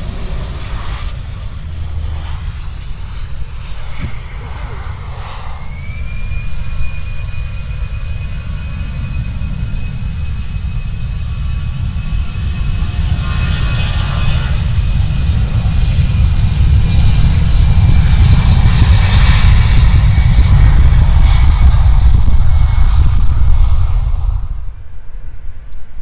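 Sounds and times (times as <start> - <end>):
airliner engines roaring: 0.0 - 26.0.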